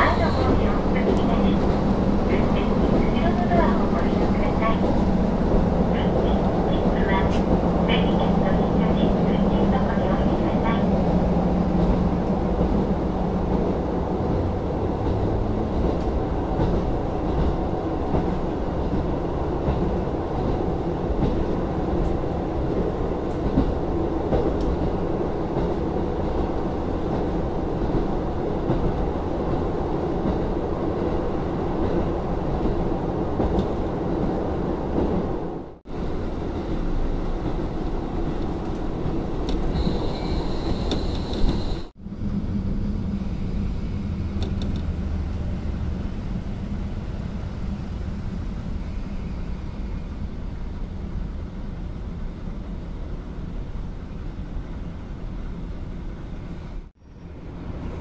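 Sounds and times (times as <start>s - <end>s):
diesel railcar running: 0.0s - 58.0s.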